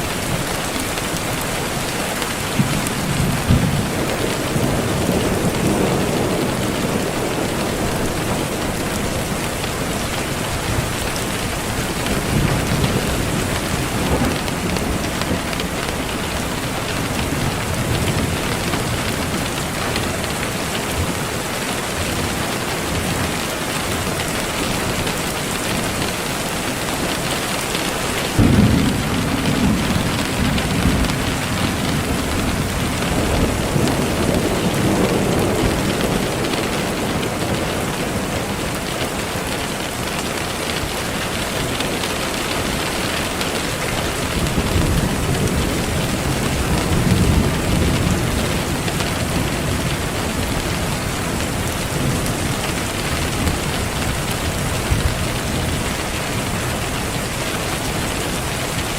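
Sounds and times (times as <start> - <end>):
steady rain: 0.0 - 58.9
thunder clap and rumble: 0.1 - 58.9.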